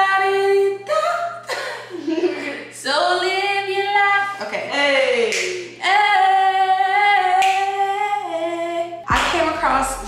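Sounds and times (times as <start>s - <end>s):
woman singing a cappella: 0.0s - 10.0s.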